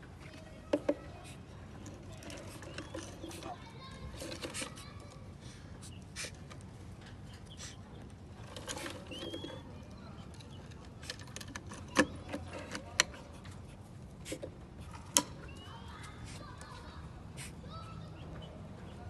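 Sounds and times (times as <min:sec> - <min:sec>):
low background murmur: 0:00.0 - 0:19.0.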